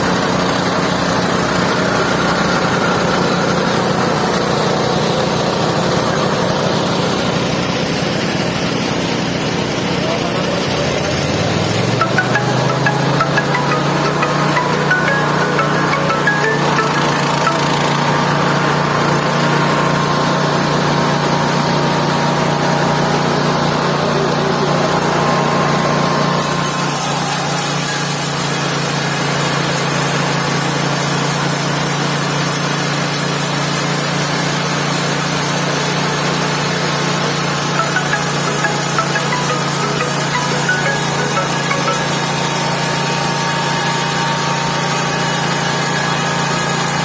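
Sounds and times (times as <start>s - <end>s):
sawmill engine drone: 0.0s - 47.0s.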